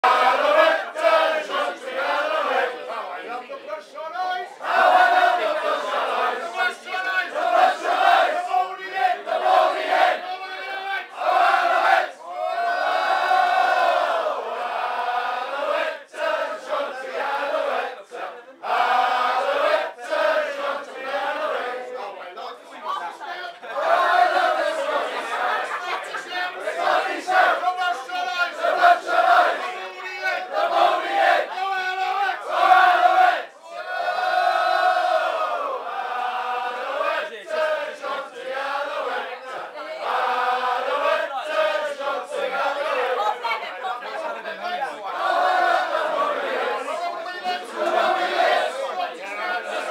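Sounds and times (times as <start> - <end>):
crowd of men chanting: 0.0 - 3.4, 4.5 - 49.9.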